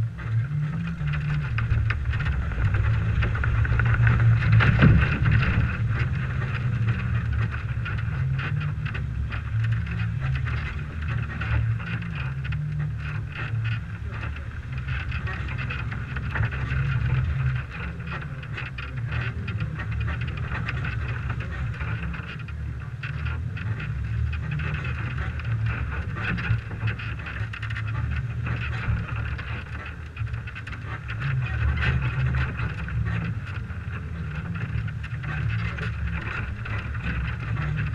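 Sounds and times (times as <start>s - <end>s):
crackling: 0.0s - 37.9s
engine and tyres rumbling: 0.0s - 37.9s.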